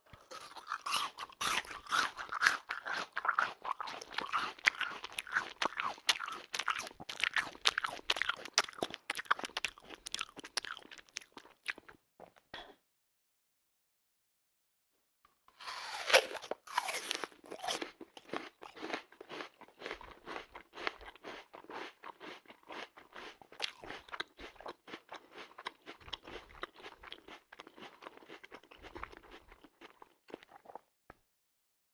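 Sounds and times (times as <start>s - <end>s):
crunching chews: 0.0s - 12.4s, 15.6s - 30.9s
crunching bite into apple: 0.1s - 11.9s, 15.6s - 30.8s.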